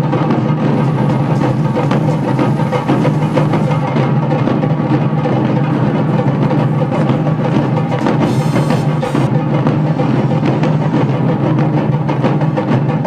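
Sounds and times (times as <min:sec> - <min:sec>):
drum-driven background music: 0:00.0 - 0:13.0.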